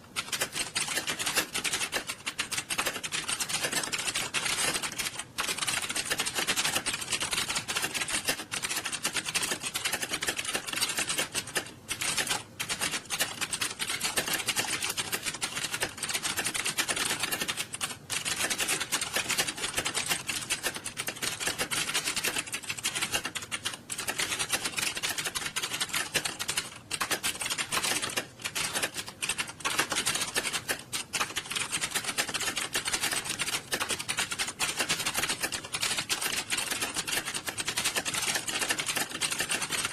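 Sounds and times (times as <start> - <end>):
many keyboards clattering: 0.2 - 39.9.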